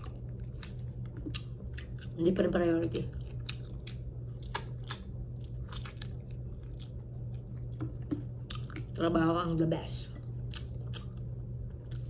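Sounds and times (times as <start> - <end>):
person chewing food: 0.0 - 2.2, 3.0 - 9.0, 10.1 - 12.0.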